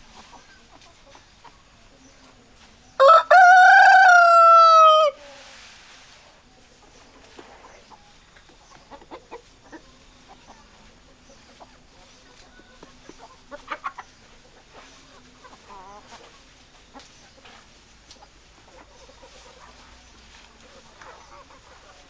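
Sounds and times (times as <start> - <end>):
hens clucking: 0.0 - 5.7, 6.7 - 22.0.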